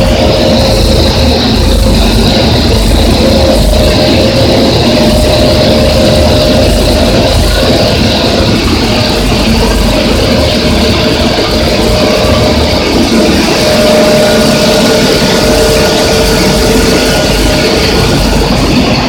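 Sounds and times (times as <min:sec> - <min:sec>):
blower rush of air: 0:00.0 - 0:19.0
steady hums: 0:00.0 - 0:19.0.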